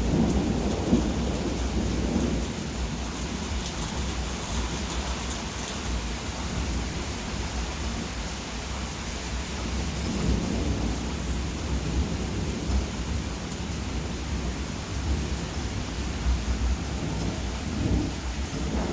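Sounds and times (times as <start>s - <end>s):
low rumbling thunder: 0.0s - 7.0s, 9.6s - 18.9s
steady rain: 0.0s - 18.9s.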